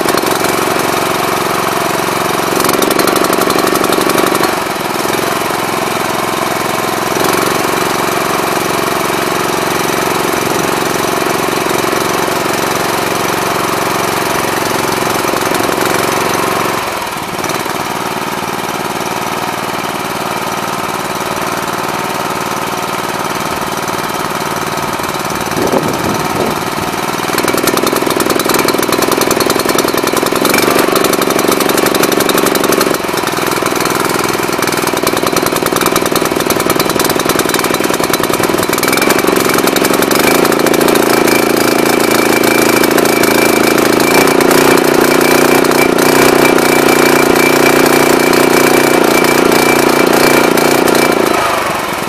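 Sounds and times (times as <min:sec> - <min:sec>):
petrol engine running: 0:00.0 - 0:52.0.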